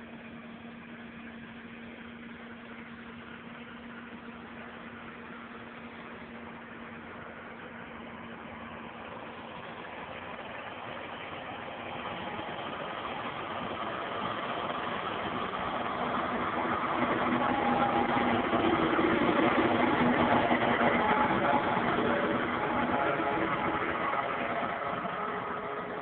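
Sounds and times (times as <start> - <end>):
diesel tractor engine under load: 0.0 - 26.0.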